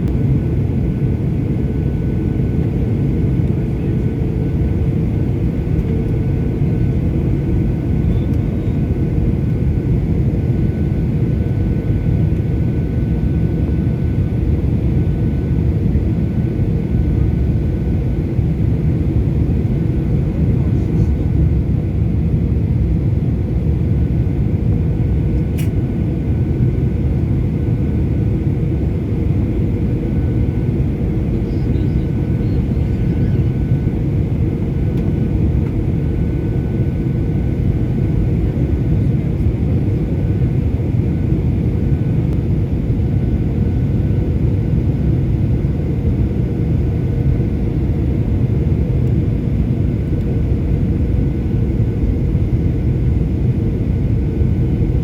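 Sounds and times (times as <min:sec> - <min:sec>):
jet engines and airflow: 0:00.0 - 0:55.0.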